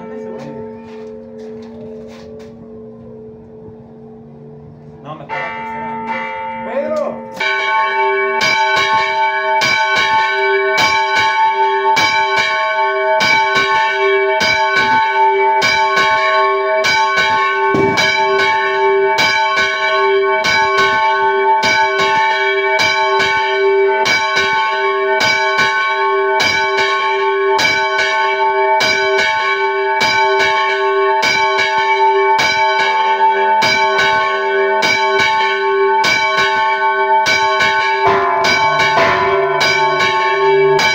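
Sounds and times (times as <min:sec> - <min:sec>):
church bells pealing rapidly: 0:00.0 - 0:40.9.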